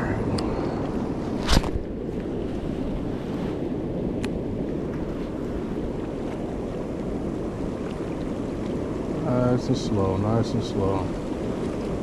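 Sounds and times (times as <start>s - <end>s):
turbulent water rushing: 0.0s - 12.0s
wind buffeting microphone: 0.0s - 12.0s.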